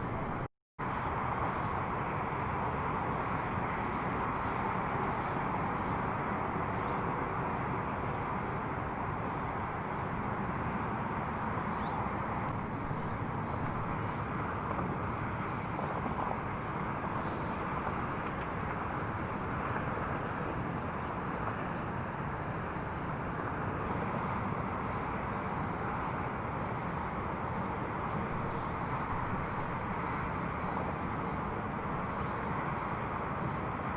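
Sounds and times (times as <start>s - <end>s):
city traffic hum: 0.0s - 33.9s.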